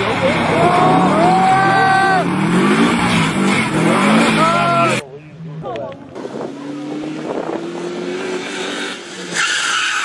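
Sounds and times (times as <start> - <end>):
rally car engine running: 0.0 - 8.4.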